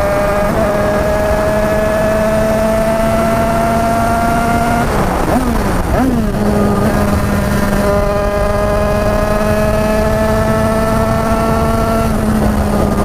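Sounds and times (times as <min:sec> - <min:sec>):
two-stroke motorcycle engine revving: 0:00.0 - 0:13.0
wind and road rush: 0:00.0 - 0:13.0.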